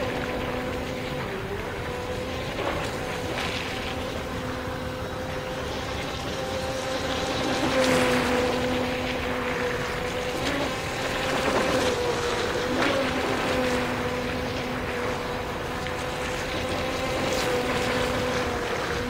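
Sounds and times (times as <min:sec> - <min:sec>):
electric motor whine: 0:00.0 - 0:19.0
water and wind hiss: 0:00.0 - 0:19.0.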